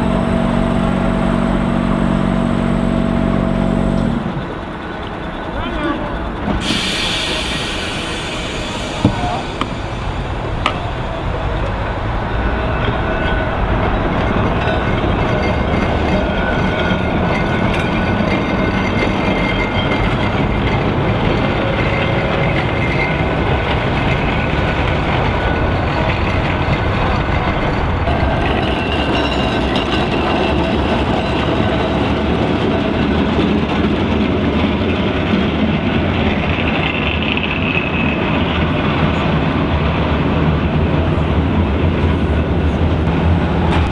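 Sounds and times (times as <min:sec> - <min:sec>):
tram wheels rumbling on rails: 0:00.0 - 0:43.9.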